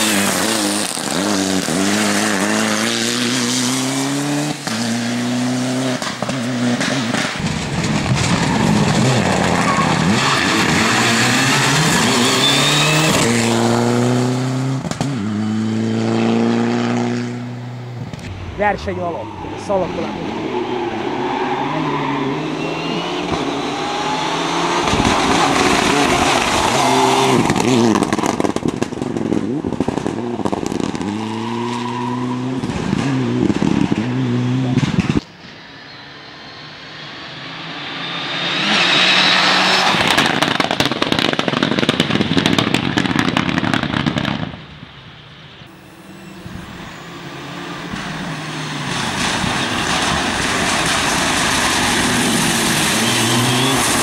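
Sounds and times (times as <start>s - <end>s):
rally car engine revving: 0.0s - 35.2s, 37.3s - 43.4s, 45.7s - 54.0s.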